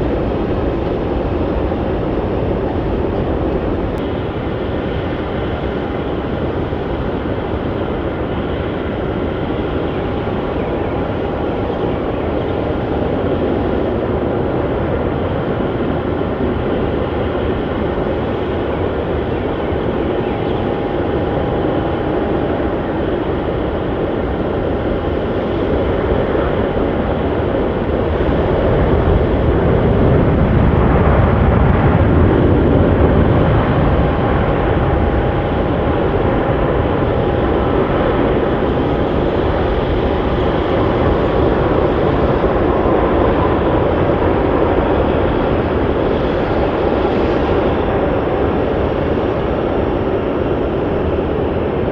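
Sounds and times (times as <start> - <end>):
jet engines with high whine: 0.0 - 51.9.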